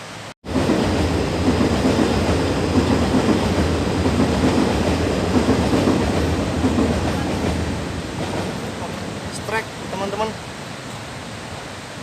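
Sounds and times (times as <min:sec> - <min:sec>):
train rumbling on track: 0:00.4 - 0:12.0.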